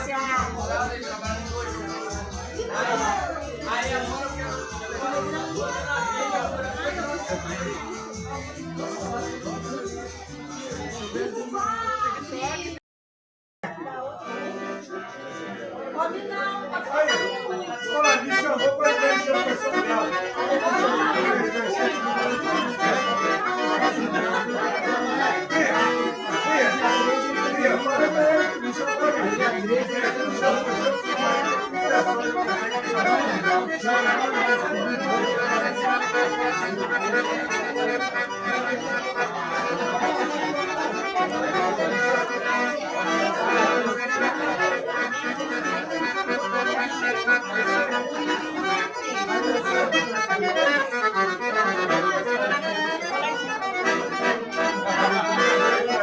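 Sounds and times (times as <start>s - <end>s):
accordion music: 0.0s - 12.8s, 14.0s - 56.0s
voices: 0.0s - 12.8s, 13.7s - 56.0s.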